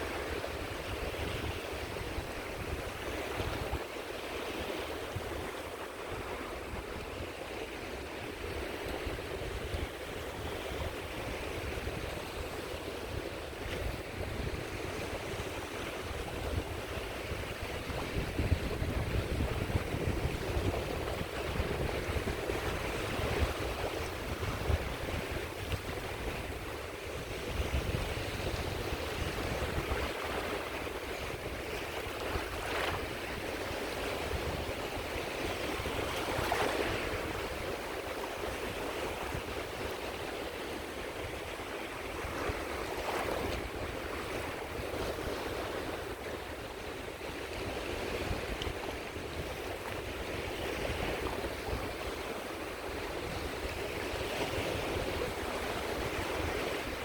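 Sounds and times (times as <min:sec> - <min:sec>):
small sea waves breaking on shore: 0:00.0 - 0:57.0.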